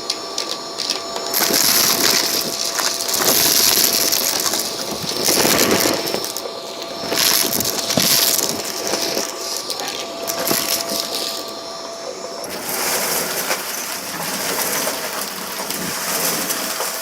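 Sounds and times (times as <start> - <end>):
debris crackling in vacuum: 0.0 - 17.0
vacuum cleaner running: 0.0 - 17.0.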